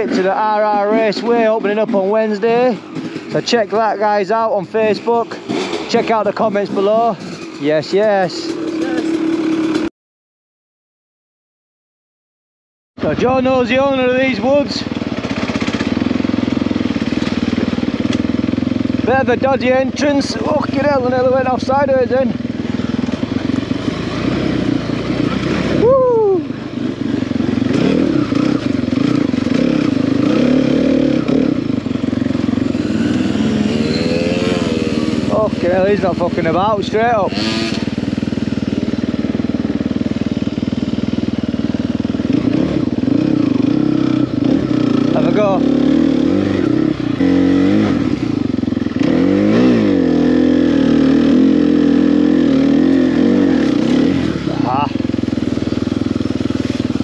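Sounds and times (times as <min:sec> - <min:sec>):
dirt bike engine revving: 0:00.0 - 0:09.9, 0:13.0 - 0:57.0.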